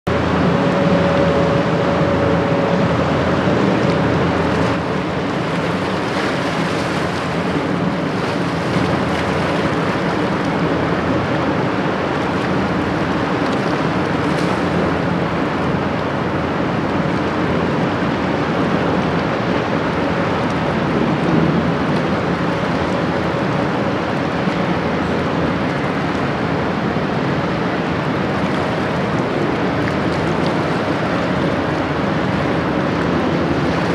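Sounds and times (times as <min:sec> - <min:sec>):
diesel engines droning: 0:00.0 - 0:33.9
water wash: 0:00.0 - 0:33.9.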